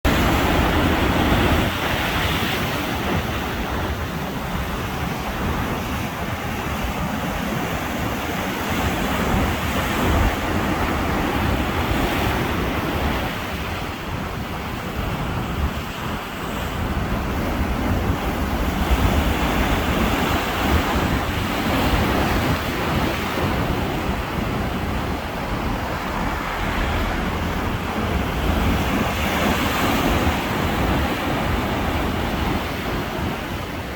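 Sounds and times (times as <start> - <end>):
wind noise on microphone: 0.0 - 33.9
ocean waves breaking on beach: 0.1 - 33.9.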